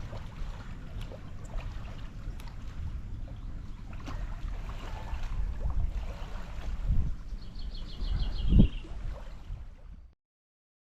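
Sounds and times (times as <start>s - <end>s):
water noise: 0.0s - 10.2s
wind buffeting microphone: 0.0s - 10.2s.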